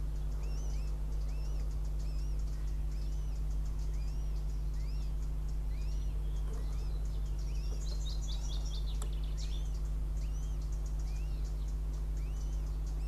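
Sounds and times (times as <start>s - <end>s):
low electrical hum: 0.0s - 13.0s
small birds singing: 0.0s - 13.0s.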